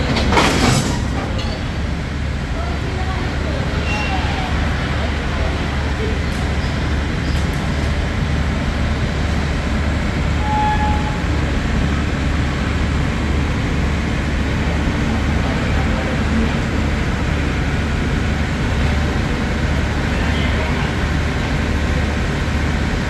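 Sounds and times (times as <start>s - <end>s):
diesel train humming: 0.0s - 23.0s.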